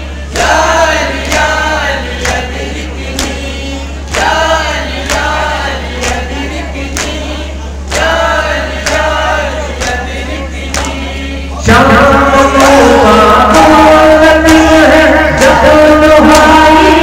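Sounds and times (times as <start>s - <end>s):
men chanting in unison: 0.0s - 17.0s
rhythmic chest-beating: 0.0s - 17.0s
steady low hum: 0.0s - 17.0s.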